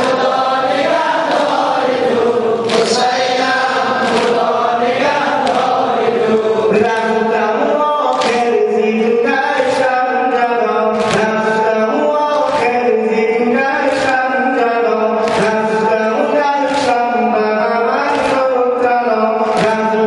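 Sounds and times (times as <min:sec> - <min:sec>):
man chanting through a microphone: 0:00.0 - 0:20.0.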